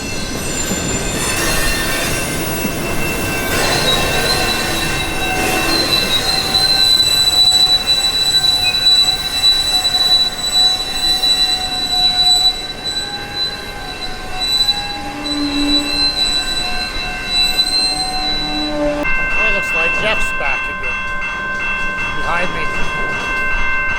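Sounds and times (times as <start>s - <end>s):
rumble of train cars: 0.0s - 23.9s
train wheels squealing on rails: 0.0s - 23.9s.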